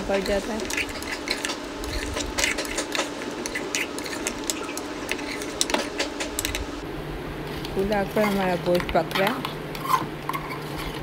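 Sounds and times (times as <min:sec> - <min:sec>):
steady hum: 0:00.0 - 0:11.0
spatula scraping metal pot: 0:00.1 - 0:06.0, 0:08.0 - 0:11.0.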